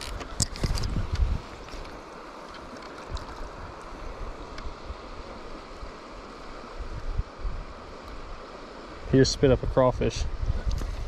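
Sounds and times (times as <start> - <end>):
wind buffeting microphone: 0.0 - 2.1, 3.0 - 11.0
creek water running: 0.0 - 11.0.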